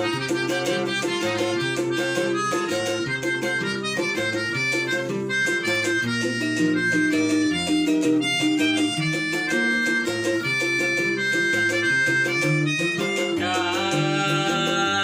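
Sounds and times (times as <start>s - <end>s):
instrumental melody over plucked strings: 0.0s - 15.0s.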